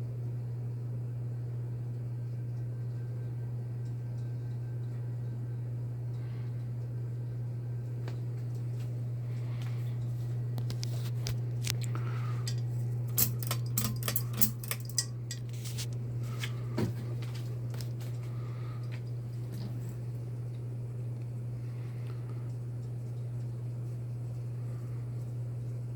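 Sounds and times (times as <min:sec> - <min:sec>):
ceiling fan motor humming: 0:00.0 - 0:25.9.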